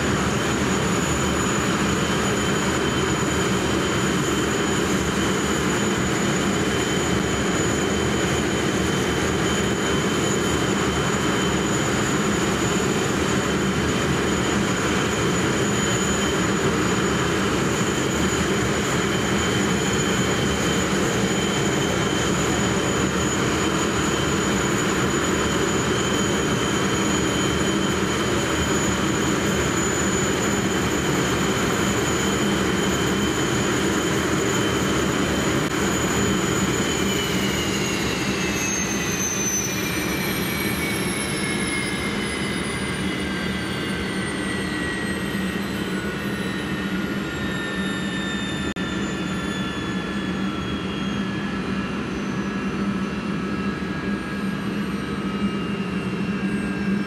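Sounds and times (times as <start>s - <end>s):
jet engines roaring and whining: 0.0s - 57.0s.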